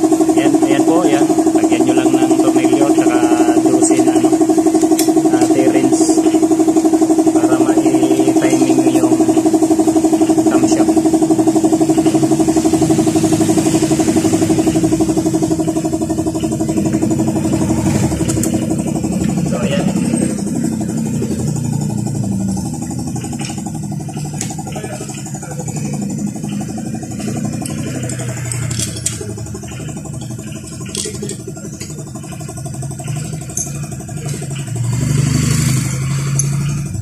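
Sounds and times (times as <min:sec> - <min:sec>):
motor pulsing hum: 0:00.0 - 0:37.0.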